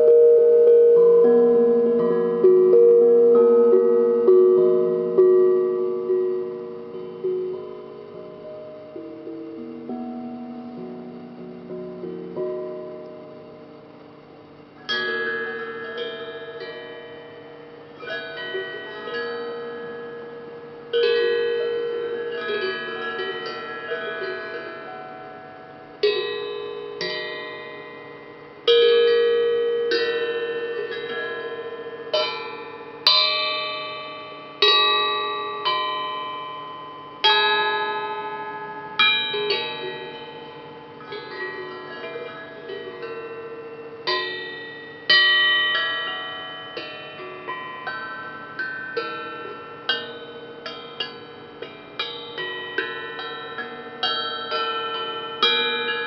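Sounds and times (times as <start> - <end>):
struck iron bell-like melody: 0.0 - 56.0.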